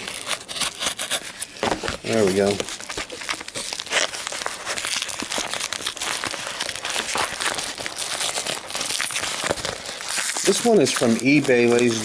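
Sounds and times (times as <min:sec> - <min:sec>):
padded envelope rustling: 0:00.0 - 0:12.0.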